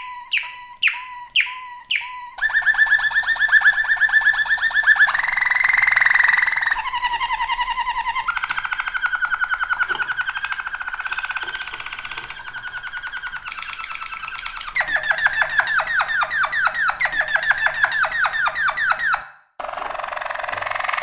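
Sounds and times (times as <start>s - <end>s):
canary singing trills: 0.0s - 19.3s.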